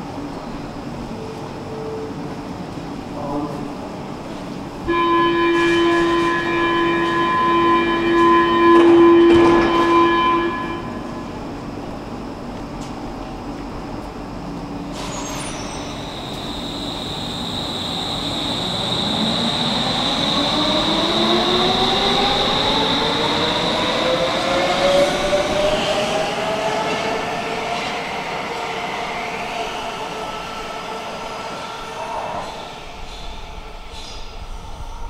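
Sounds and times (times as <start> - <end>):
metro train whine: 0.0 - 35.0.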